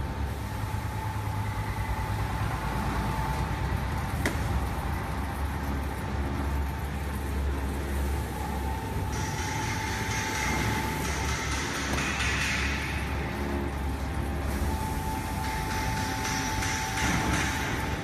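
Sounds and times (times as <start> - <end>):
machine humming with whine: 0.0 - 18.0.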